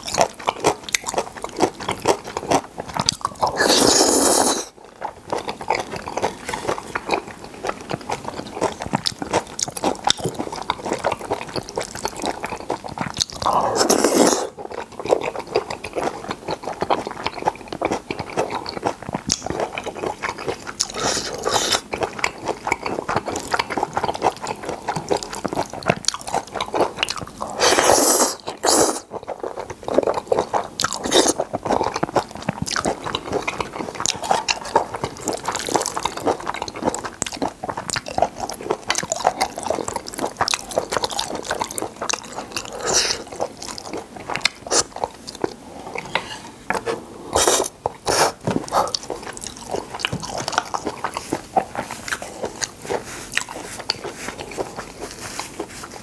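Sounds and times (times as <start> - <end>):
wet chewing and mouth clicks: 0.0 - 56.0.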